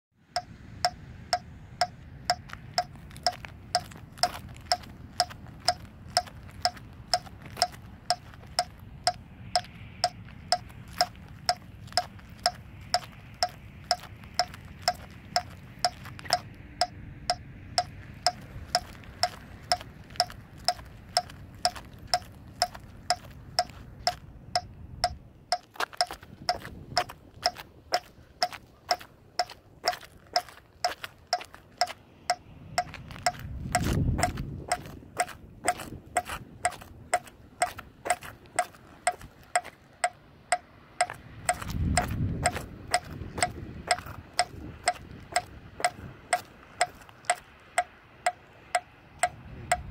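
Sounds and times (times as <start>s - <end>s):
metronome clicking: 0.4s - 29.5s, 37.6s - 49.9s.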